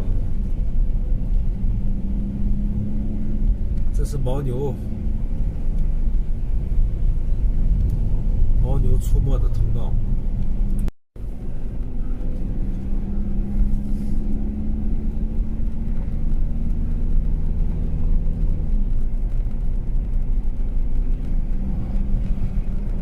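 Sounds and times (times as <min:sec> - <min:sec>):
road rumble: 0:00.0 - 0:23.0
van engine droning: 0:00.0 - 0:23.0.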